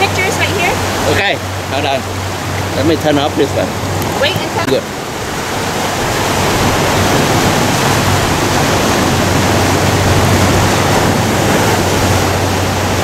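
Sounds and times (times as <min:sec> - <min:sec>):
ocean surf on rocks: 0:00.0 - 0:13.0.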